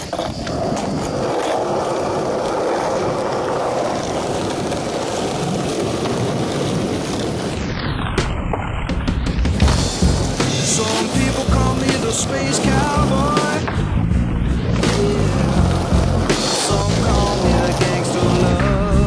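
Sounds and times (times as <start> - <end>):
skateboard wheels rolling: 0.0 - 19.0.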